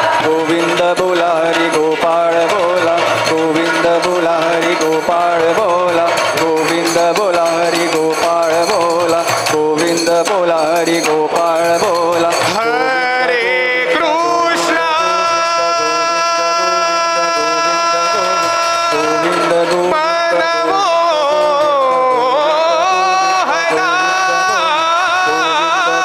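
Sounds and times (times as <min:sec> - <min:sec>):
hand drum: 0:00.0 - 0:26.0
men singing devotional song: 0:00.0 - 0:26.0.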